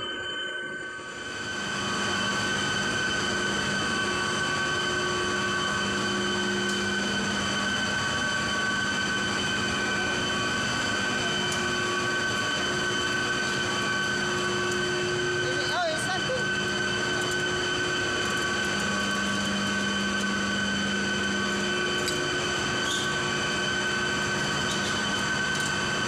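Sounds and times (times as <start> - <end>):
high whining tones: 0.0 - 26.0
machinery hum: 0.0 - 26.0.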